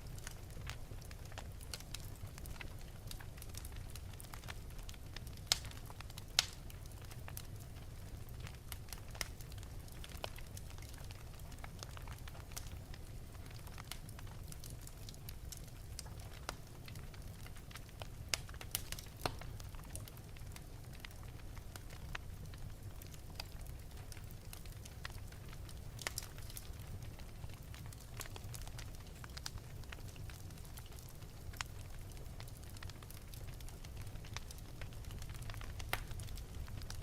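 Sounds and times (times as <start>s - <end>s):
fire crackling in fireplace: 0.0s - 37.0s
small pops of burning wood: 0.1s - 37.0s.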